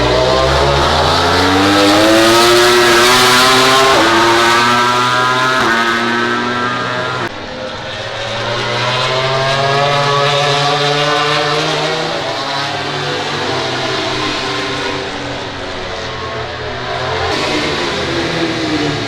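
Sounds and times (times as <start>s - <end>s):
racing motorcycle engine: 0.0s - 19.0s.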